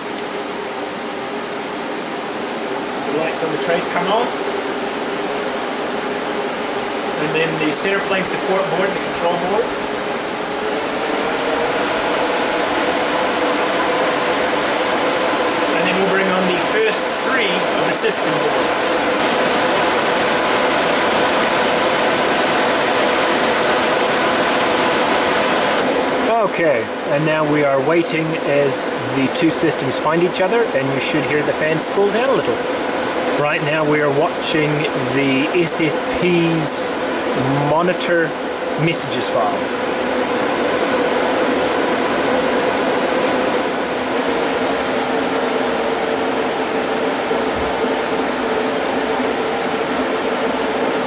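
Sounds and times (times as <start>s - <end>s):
cooling fans rushing hum: 0.0s - 51.0s.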